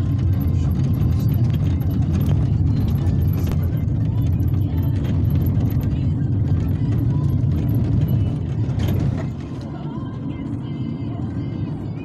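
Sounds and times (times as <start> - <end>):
car rattles and knocks: 0.0 - 9.8
tyre and engine rumble: 0.0 - 12.0.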